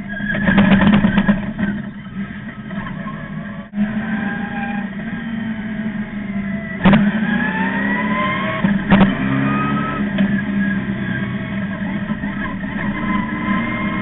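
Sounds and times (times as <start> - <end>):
race car engine pulling: 0.0 - 14.0.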